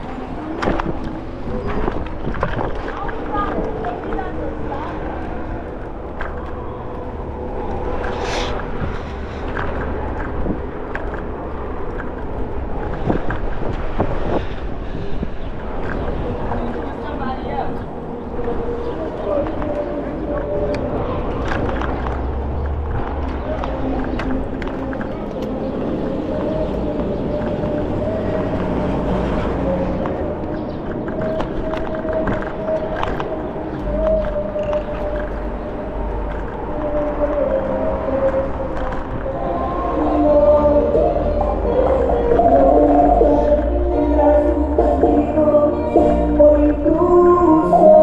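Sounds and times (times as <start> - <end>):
city traffic: 0.0 - 48.0
scooter low rumble: 0.0 - 48.0
tyres rolling over pavement: 0.0 - 48.0
wind on microphone: 0.0 - 48.0.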